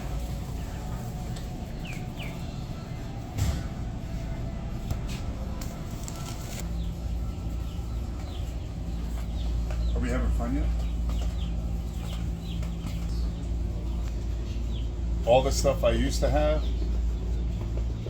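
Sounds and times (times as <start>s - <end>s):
chicks peeping: 0.0s - 3.2s, 5.6s - 18.0s
steady low rumble: 0.0s - 18.0s.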